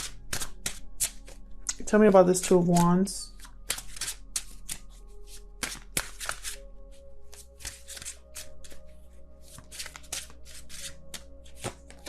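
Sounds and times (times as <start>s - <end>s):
cards being shuffled: 0.0s - 1.4s, 2.5s - 6.6s, 7.3s - 12.0s
faint background music: 0.0s - 12.0s.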